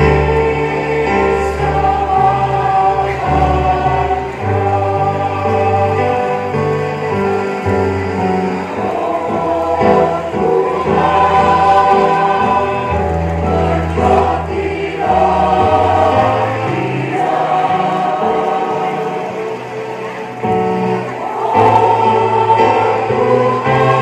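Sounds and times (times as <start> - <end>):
mixed choir singing: 0.0 - 24.0.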